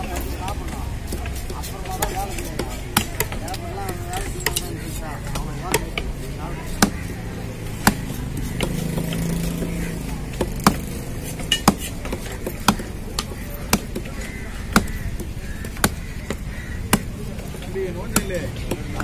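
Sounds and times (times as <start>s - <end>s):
knife chopping on wooden block: 0.2s - 19.0s.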